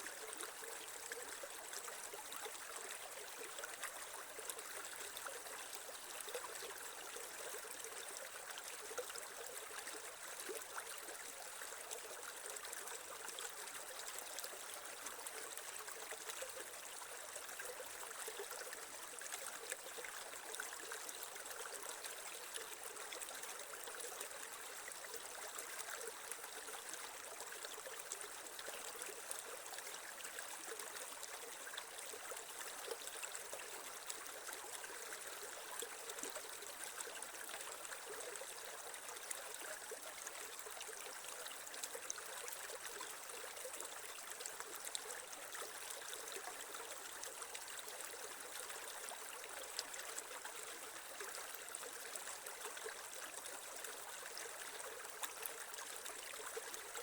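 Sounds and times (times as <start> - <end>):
creek water trickling over stones: 0.0 - 57.0.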